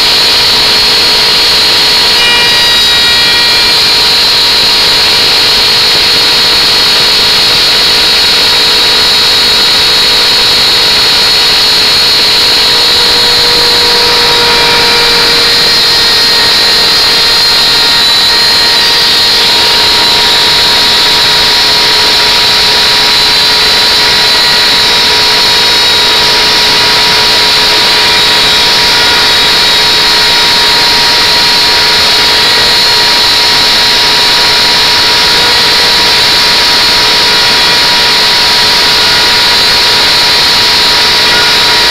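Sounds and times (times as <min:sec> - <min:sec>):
router bit cutting wood: 0:00.0 - 0:41.9
wood router whining: 0:00.0 - 0:41.9.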